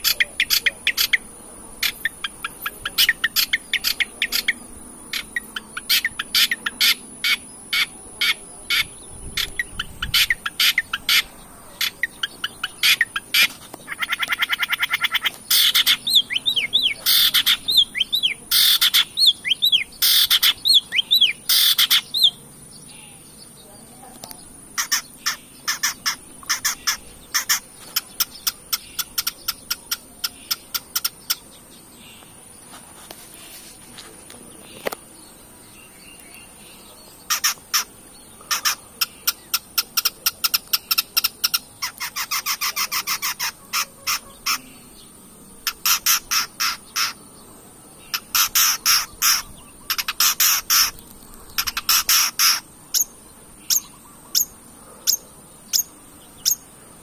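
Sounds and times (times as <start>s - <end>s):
bird chattering song: 0.0s - 32.5s, 34.5s - 56.7s.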